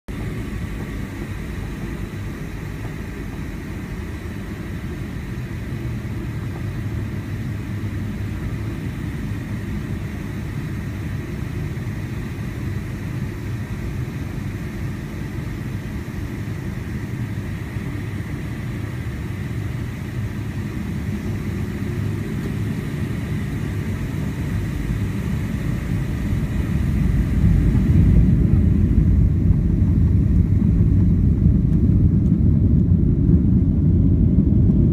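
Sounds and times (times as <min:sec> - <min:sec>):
jet engines rumbling in cabin: 0:00.1 - 0:34.9.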